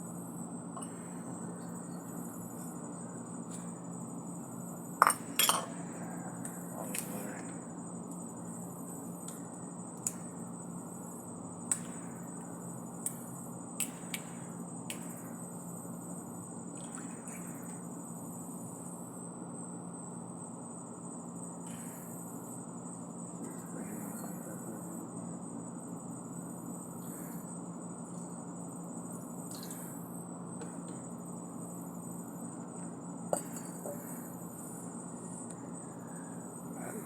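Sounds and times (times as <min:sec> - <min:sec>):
background hum and hiss: 0:00.0 - 0:37.0.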